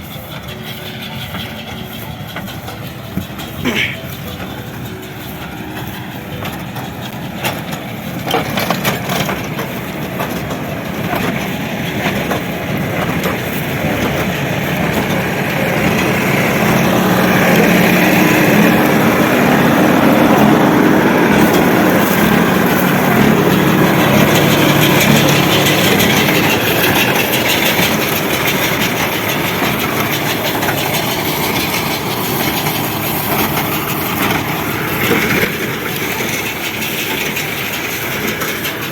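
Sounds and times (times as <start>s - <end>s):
mechanical clatter: 0.0s - 38.9s
tractor engine running: 0.0s - 38.9s.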